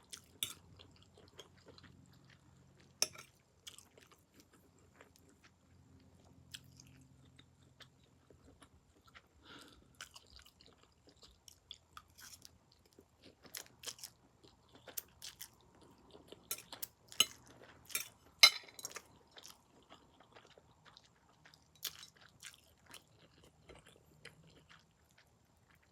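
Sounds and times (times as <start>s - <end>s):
person chewing noodles: 0.0s - 25.9s.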